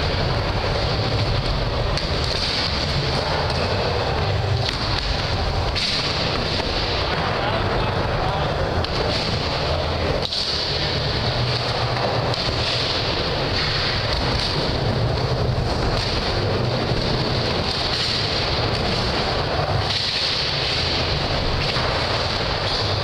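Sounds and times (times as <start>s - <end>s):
skateboard wheels rolling on wood: 0.0s - 23.0s.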